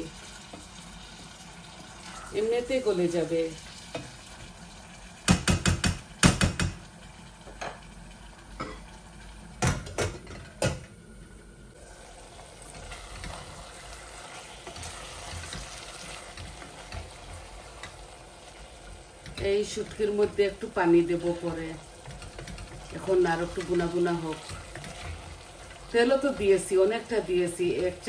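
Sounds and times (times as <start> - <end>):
faint frying sizzle: 0.0 - 28.0.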